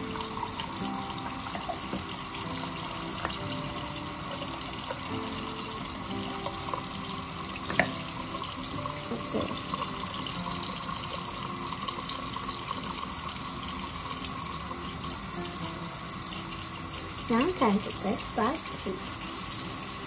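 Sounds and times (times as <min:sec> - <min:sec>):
tap water running into sink: 0:00.0 - 0:20.0.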